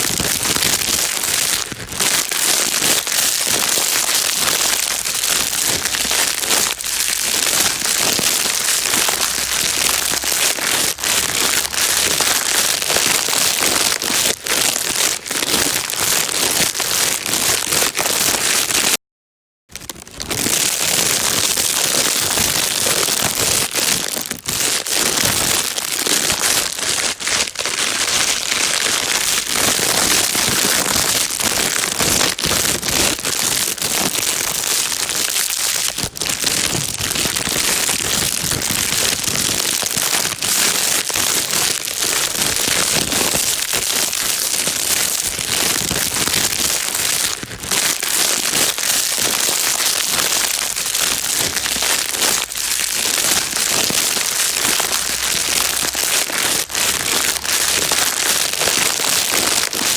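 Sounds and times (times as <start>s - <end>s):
plastic bag crumpling: 0.0s - 19.0s, 19.7s - 59.9s.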